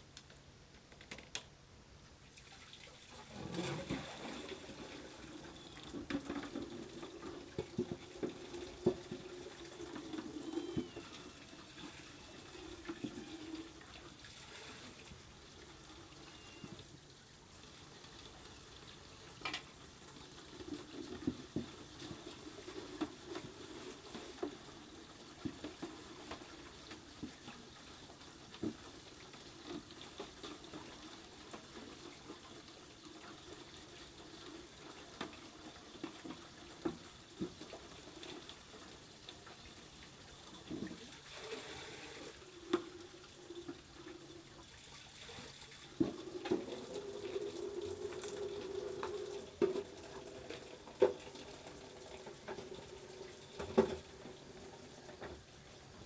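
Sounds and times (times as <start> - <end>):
water running from tap: 2.6 - 56.0.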